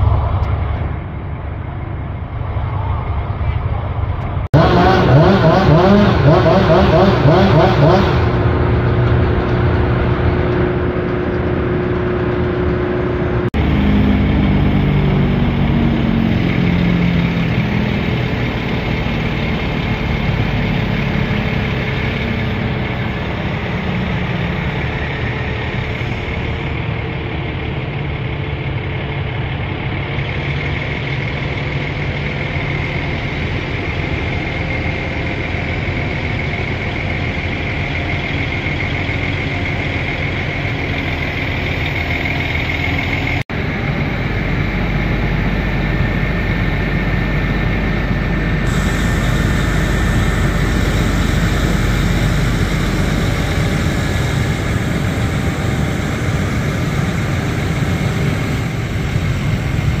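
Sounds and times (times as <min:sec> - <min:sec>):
crane engine running: 0:00.0 - 1:00.0
high steady whine: 0:00.0 - 1:00.0.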